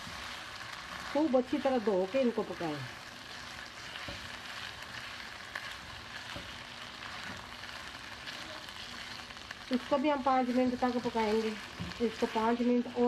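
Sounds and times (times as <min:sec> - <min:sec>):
meat sizzling in oil: 0:00.0 - 0:13.0
spatula scraping pan: 0:00.0 - 0:13.0.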